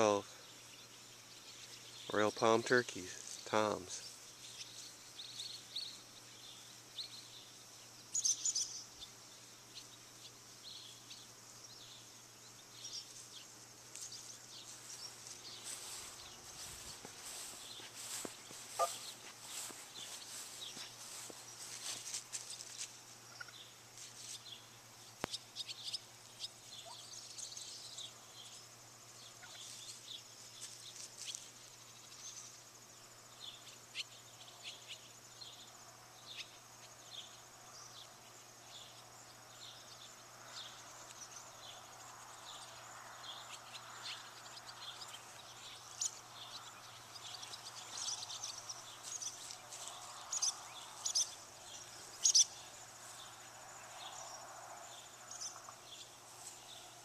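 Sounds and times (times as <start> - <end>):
high insect trill: 0.0 - 57.0
small birds chirping: 0.0 - 57.0.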